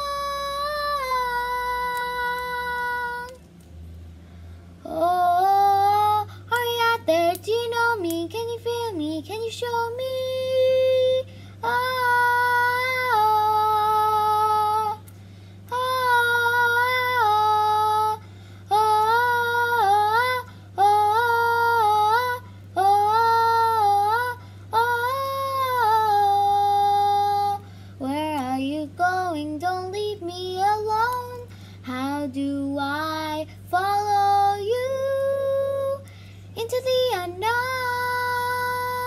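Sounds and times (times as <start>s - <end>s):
girl singing wordless vocalise: 0.0s - 3.4s, 4.8s - 39.0s
steady low hum: 0.0s - 39.0s.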